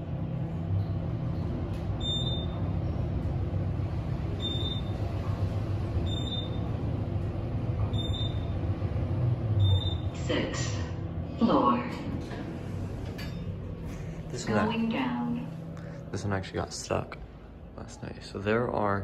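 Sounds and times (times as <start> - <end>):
elevator humming while moving: 0.0 - 17.8.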